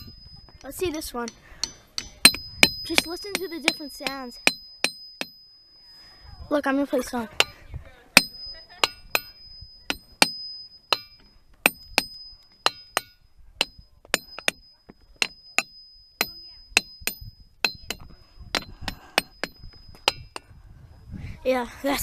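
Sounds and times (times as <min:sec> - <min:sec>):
hammer striking ringing rocks: 0:00.0 - 0:05.7, 0:08.2 - 0:20.5.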